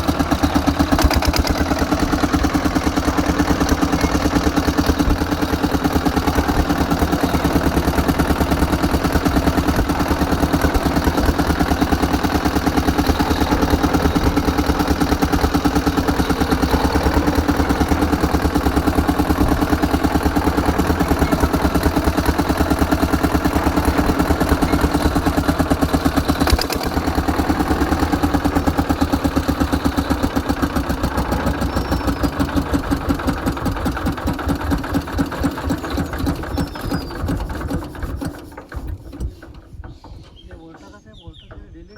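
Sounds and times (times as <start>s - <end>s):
diesel engine running: 0.0s - 41.1s
sharp engine knock: 0.0s - 41.7s.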